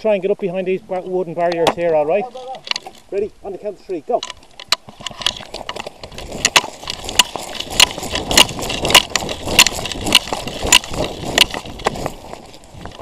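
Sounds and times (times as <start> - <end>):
running footsteps on twigs: 0.5 - 13.0.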